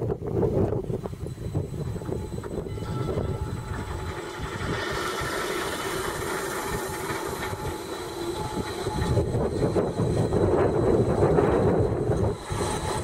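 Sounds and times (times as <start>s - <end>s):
electric train rumbling: 0.0s - 13.0s
hiss: 0.8s - 13.0s.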